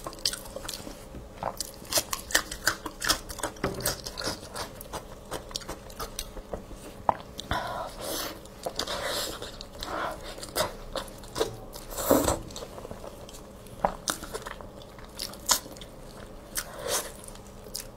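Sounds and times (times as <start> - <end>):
wet chewing and smacking: 0.0 - 7.6, 8.4 - 17.9.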